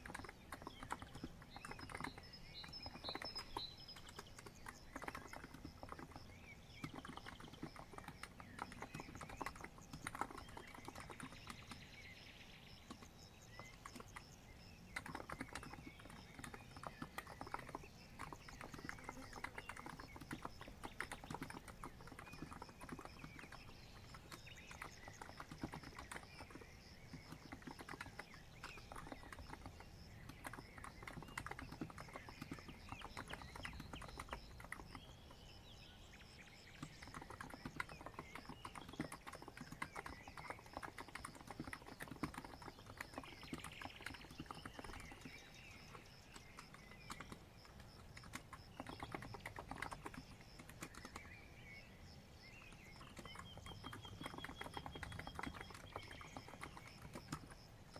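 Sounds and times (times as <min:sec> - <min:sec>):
keyboard typing: 0:00.0 - 0:35.3, 0:36.8 - 0:51.8, 0:52.5 - 0:57.9
birds chirping: 0:00.0 - 0:57.9.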